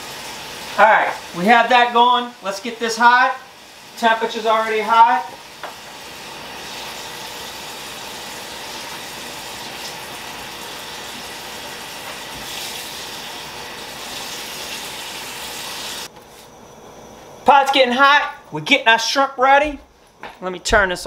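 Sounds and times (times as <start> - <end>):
gas burner hissing: 0.0 - 19.2.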